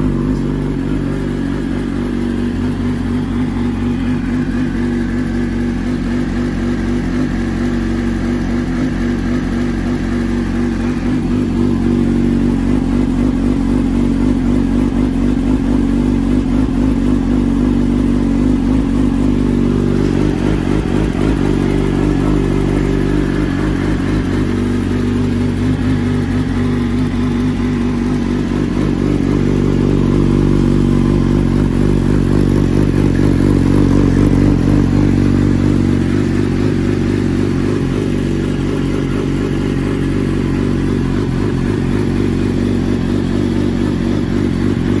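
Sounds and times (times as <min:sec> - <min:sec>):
motorcycle engine idling: 0:00.0 - 0:45.0.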